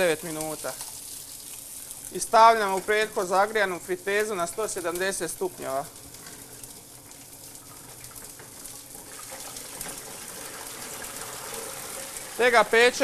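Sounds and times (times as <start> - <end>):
oil bubbling and hissing: 0.0 - 13.0.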